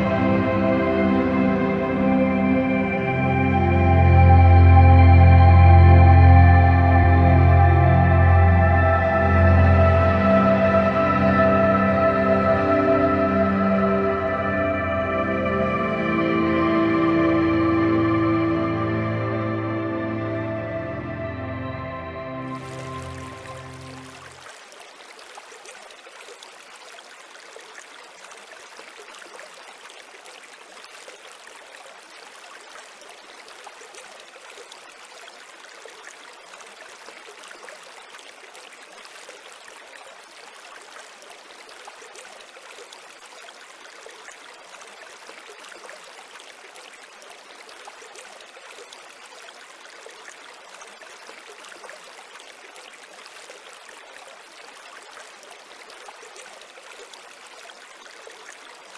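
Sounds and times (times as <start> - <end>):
small stream babbling: 0.0 - 58.9.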